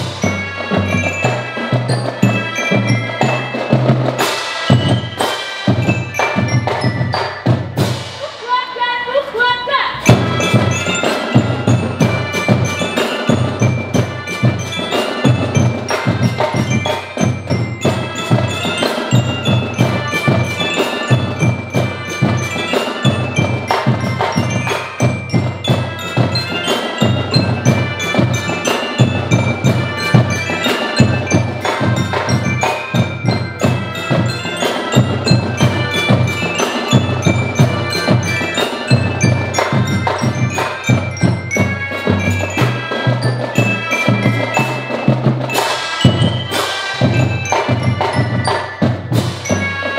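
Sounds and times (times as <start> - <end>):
glockenspiels: 0.0 - 8.2, 10.0 - 49.9
drums beating: 0.0 - 49.9
melodicas playing: 0.0 - 49.9.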